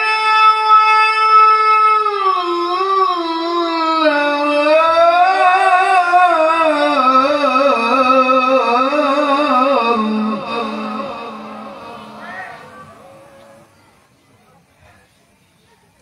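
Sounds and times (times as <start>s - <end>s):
man reciting melodically into microphone: 0.0s - 13.6s.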